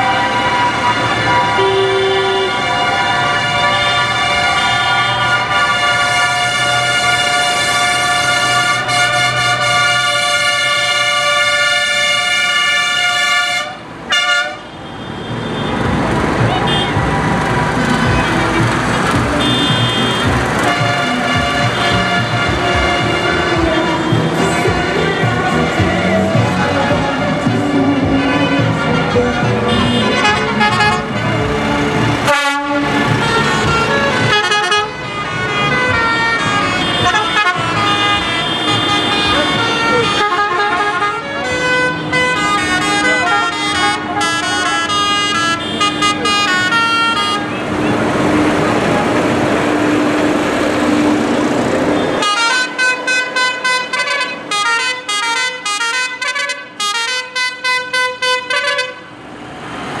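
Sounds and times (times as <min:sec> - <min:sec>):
tractor engines running: 0:00.0 - 0:57.1
tractor horns: 0:00.0 - 0:59.2.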